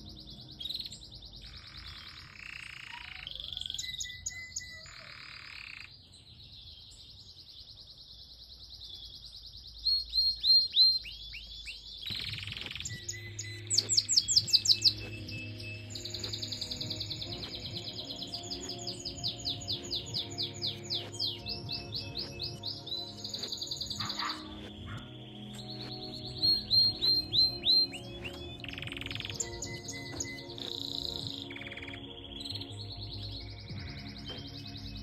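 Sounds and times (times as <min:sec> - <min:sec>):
canary singing trills: 0:00.0 - 0:35.0.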